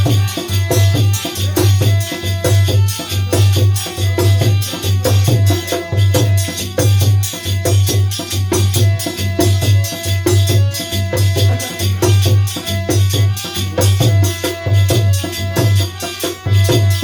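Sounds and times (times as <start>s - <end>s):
heavy bass drum beat: 0.0s - 17.0s
held melody line: 0.0s - 17.0s
rattling percussion: 0.0s - 17.0s.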